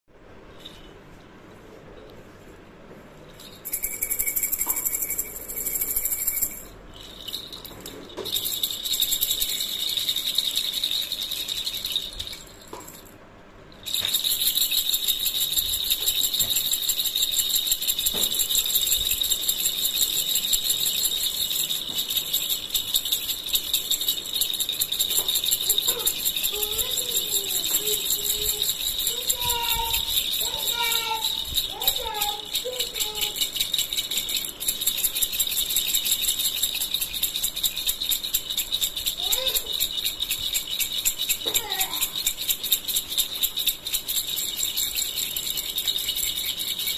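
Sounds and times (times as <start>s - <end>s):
plastic baby rattle shaken: 0.6s - 0.9s, 3.3s - 13.1s, 13.8s - 46.9s.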